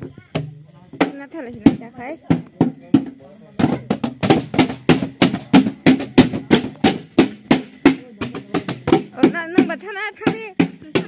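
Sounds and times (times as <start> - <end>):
drum beaten fast: 0.0 - 11.0.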